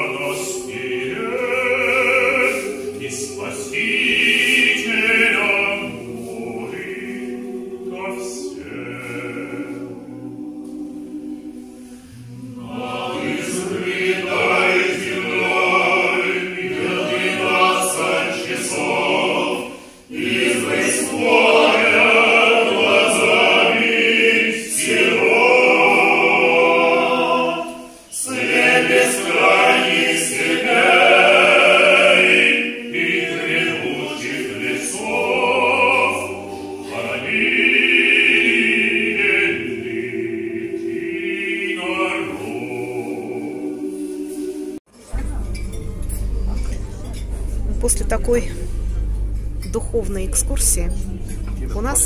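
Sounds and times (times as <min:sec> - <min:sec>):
male choir singing unaccompanied: 0:00.0 - 0:44.8.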